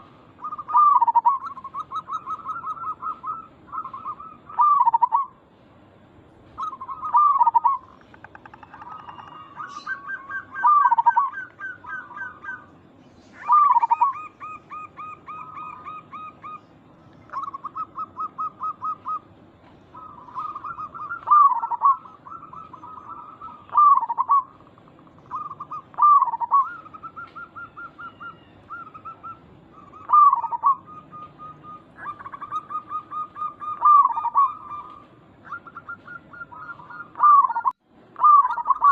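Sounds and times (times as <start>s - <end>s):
doves cooing: 0.0s - 5.5s, 6.5s - 38.9s.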